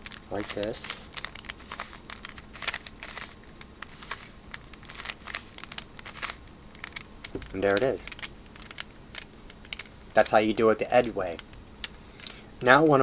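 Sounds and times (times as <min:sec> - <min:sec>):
puzzle cube clicking and rattling: 0:00.0 - 0:10.0, 0:11.0 - 0:11.9.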